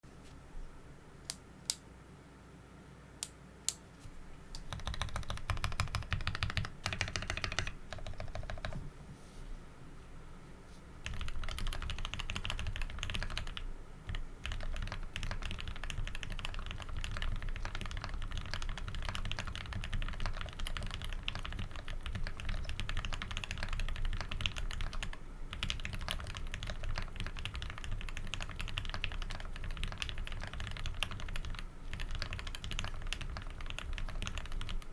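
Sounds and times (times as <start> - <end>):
mechanical keyboard typing: 4.6 - 8.8, 11.0 - 34.9.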